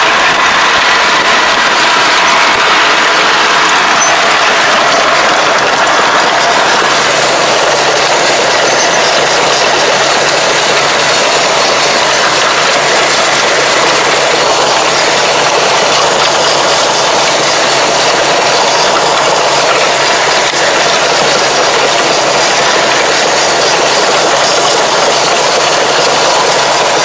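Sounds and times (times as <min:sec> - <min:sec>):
tractor running: 0:00.0 - 0:27.0.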